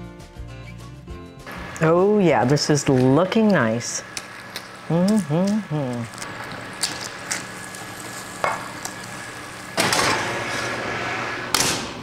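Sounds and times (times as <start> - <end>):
food sizzling: 1.5 - 11.2.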